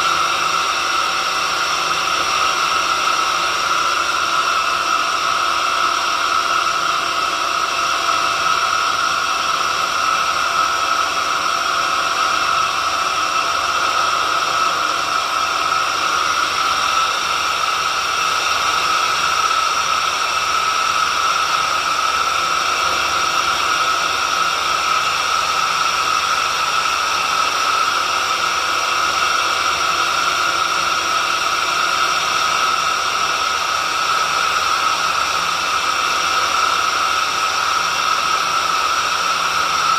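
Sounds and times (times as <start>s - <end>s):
drill machine whine: 0.0s - 39.9s.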